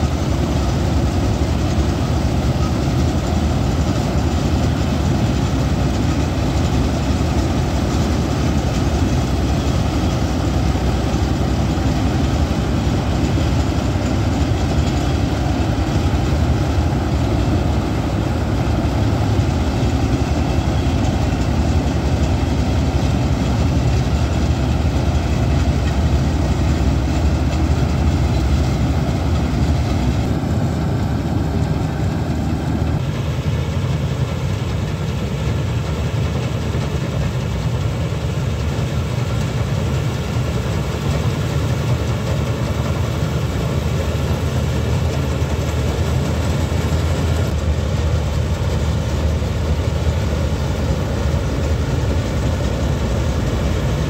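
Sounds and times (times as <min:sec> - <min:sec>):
tractor engine and threshing machinery: 0:00.0 - 0:54.0.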